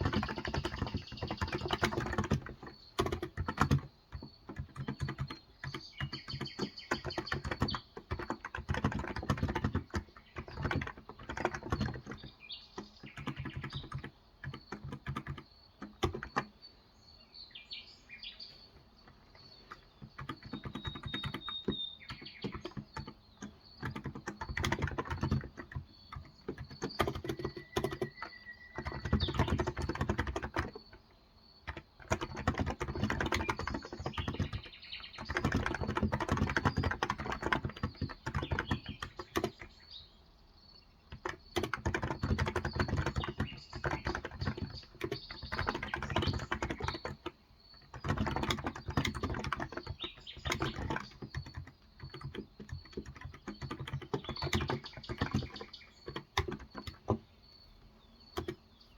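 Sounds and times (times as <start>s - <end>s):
keyboard typing: 0.0s - 16.6s, 18.8s - 39.9s, 41.0s - 57.5s, 58.3s - 58.9s
birds chirping: 0.0s - 58.9s.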